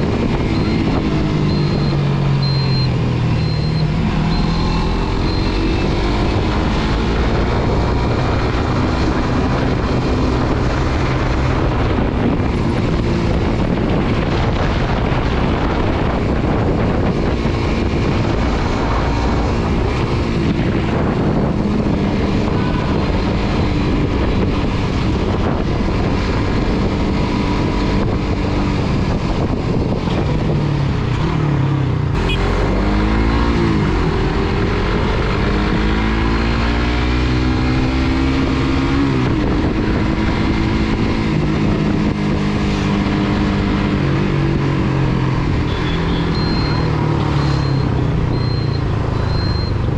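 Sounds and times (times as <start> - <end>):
wind noise: 0.0 - 49.9.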